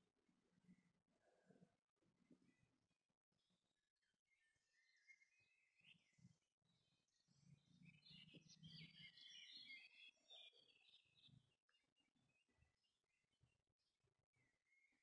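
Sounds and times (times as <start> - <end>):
faint birds chirping: 0.5 - 15.0.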